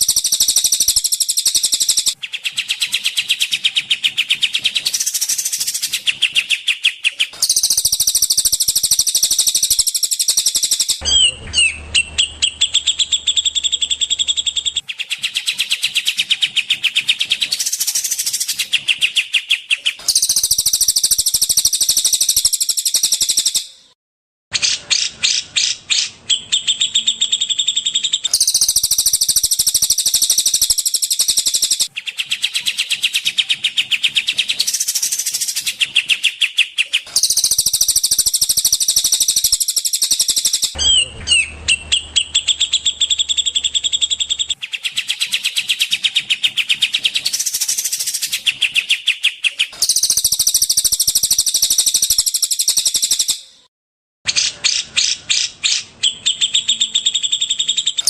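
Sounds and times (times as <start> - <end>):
songbirds trilling and chattering: 0.0 - 23.6, 24.8 - 53.4.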